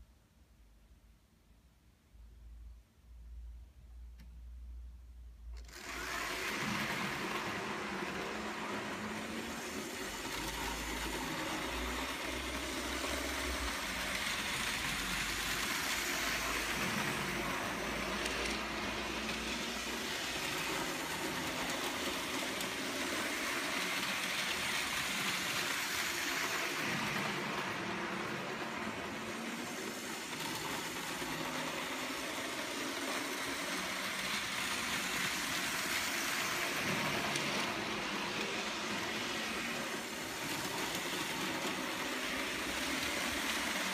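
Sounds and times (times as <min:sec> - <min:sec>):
model trains whirring and rattling: 0:05.5 - 0:43.9.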